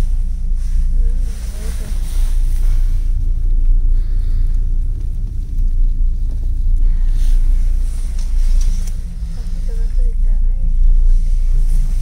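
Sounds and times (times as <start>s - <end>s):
cable car cabin rumble: 0.0s - 12.0s.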